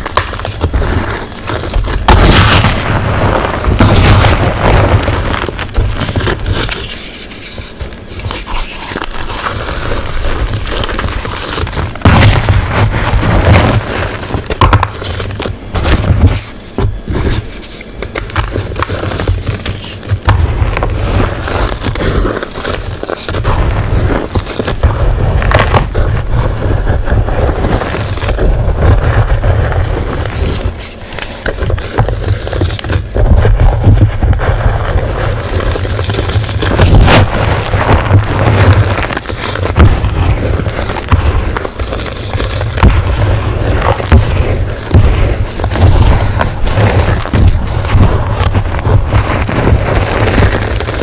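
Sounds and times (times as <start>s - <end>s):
chalk crushing crunch: 0.0s - 51.0s.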